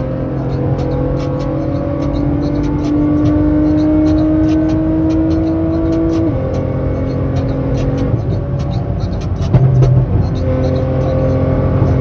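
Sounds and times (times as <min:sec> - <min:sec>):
sports car engine accelerating: 0:00.0 - 0:12.0.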